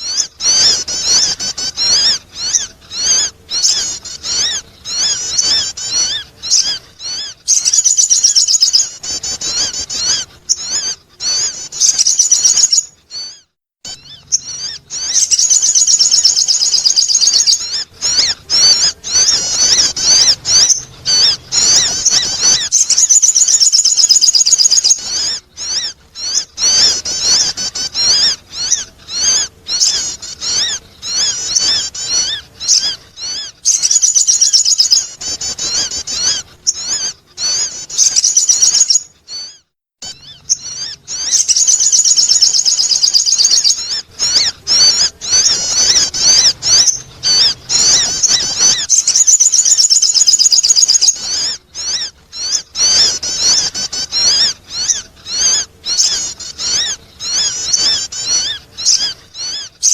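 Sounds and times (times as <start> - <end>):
bird chattering warble: 0.0 - 59.9.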